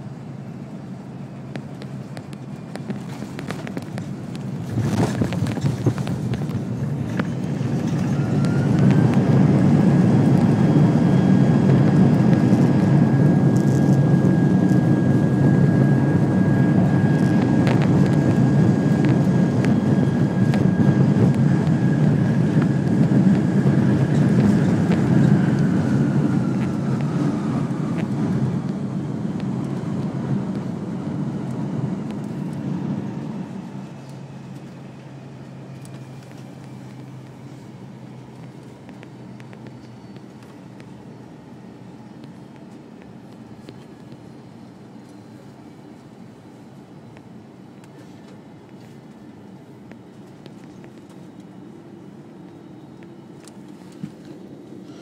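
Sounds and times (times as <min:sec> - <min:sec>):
jet engines reverse thrust roar: 0:00.0 - 0:55.0.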